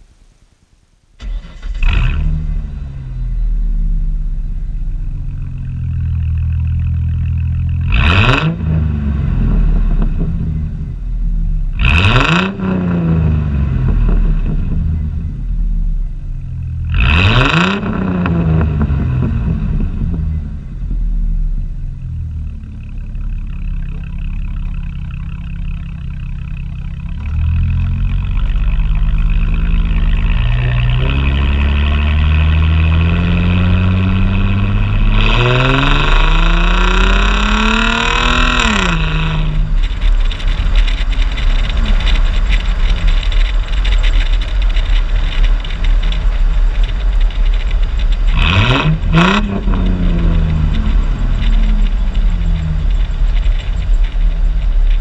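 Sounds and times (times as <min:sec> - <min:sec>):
car engine idling and revving: 0:01.2 - 0:55.0.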